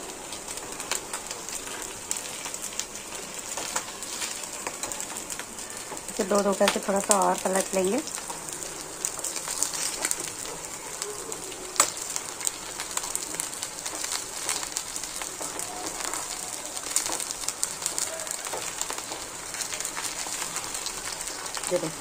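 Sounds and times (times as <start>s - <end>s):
food frying in oil: 0.0s - 22.0s.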